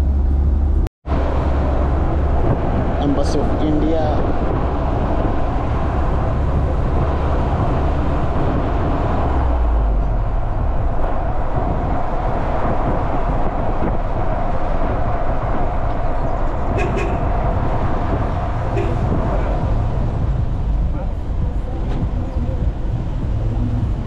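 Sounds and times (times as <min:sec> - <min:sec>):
vehicle road and engine noise: 0:00.0 - 0:24.0.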